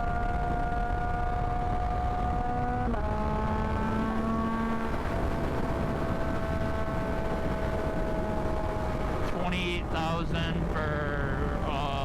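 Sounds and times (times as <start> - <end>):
motorcycle engine cruising: 0.0 - 12.0
wind rumble on microphone: 0.0 - 12.0.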